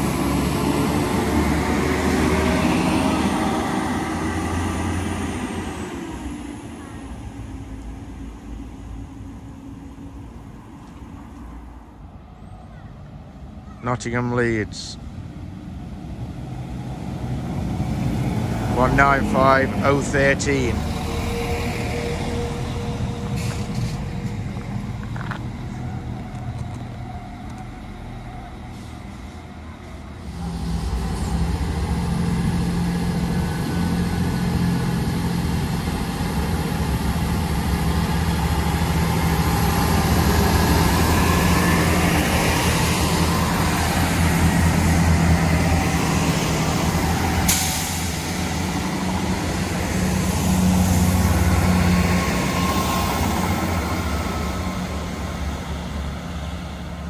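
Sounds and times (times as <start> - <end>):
train pulling away: 0.0 - 13.6, 15.0 - 57.0
train engine drone passing: 0.0 - 57.0.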